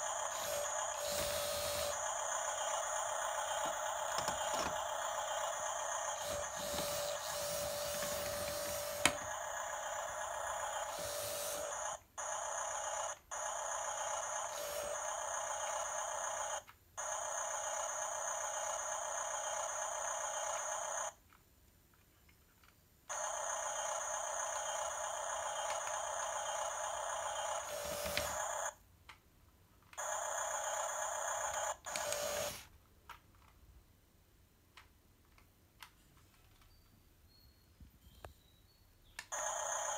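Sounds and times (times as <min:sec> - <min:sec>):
toy electronic sound effect: 0:00.0 - 0:21.2, 0:23.1 - 0:28.8, 0:30.0 - 0:32.7, 0:36.7 - 0:39.9.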